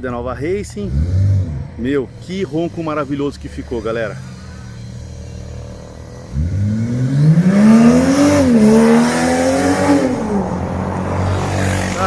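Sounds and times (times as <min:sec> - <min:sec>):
car exhaust accelerating: 0:00.6 - 0:12.0.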